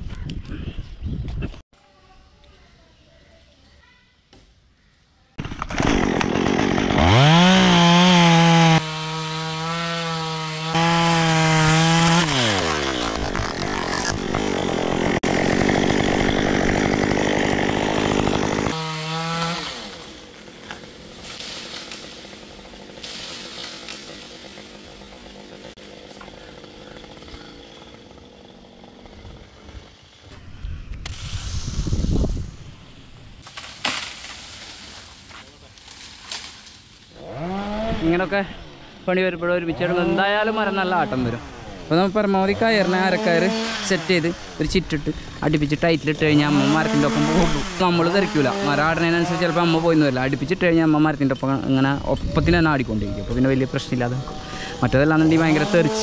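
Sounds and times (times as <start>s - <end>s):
chainsaw revving and cutting wood: 5.4s - 30.4s, 34.9s - 56.0s.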